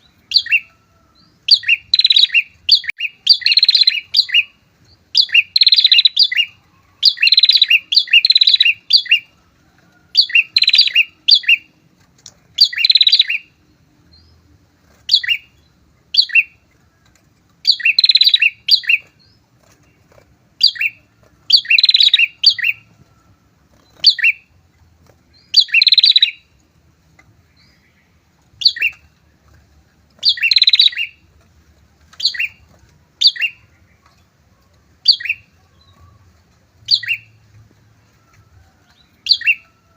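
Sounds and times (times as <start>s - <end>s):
birds chirping sharply: 0.0s - 9.4s, 10.1s - 23.0s, 23.6s - 37.6s, 38.8s - 39.9s.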